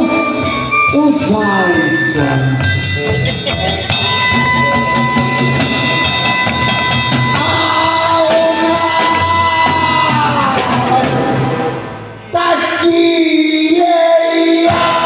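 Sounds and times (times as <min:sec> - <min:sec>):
live rock band playing: 0:00.0 - 0:12.3.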